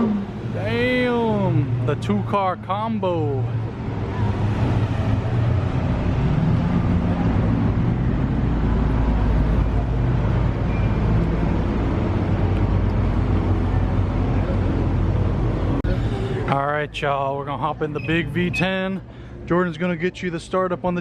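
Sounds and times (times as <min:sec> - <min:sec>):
car engines pulling away: 0:00.0 - 0:20.1.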